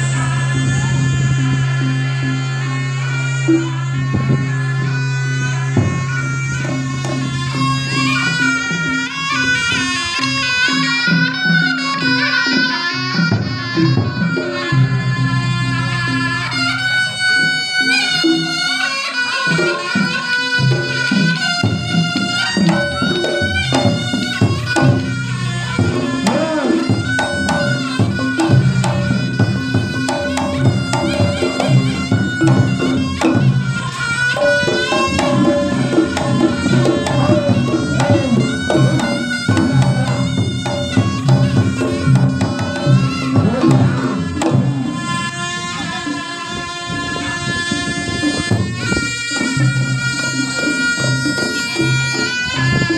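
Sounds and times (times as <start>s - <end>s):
drums: 0.0s - 52.9s.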